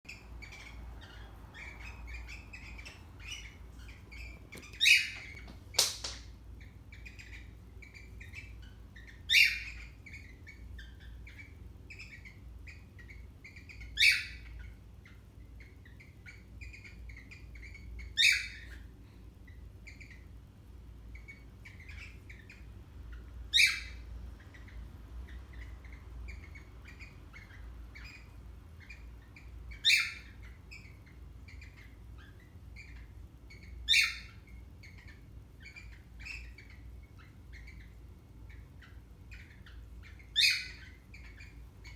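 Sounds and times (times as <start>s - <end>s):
parrots chattering: 0.1s - 20.4s, 21.1s - 41.9s.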